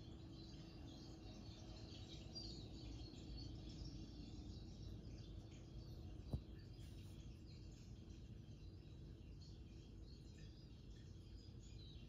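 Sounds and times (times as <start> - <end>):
low room noise: 0.0 - 12.0.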